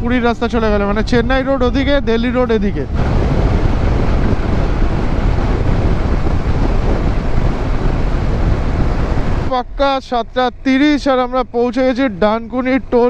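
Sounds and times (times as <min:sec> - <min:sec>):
motorcycle and road noise: 0:00.0 - 0:13.0
wind noise on microphone: 0:00.0 - 0:13.0.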